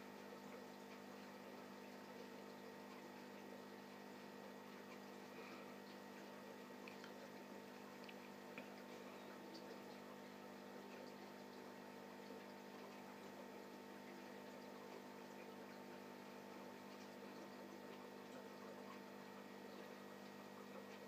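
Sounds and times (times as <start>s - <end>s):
faint steady tonal hum: 0.0s - 21.0s.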